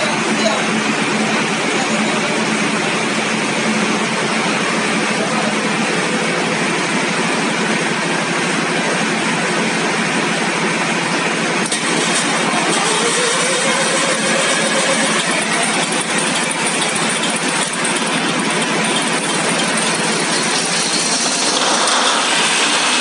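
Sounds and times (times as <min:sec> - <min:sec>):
generator engine running loud: 0:00.0 - 0:23.0.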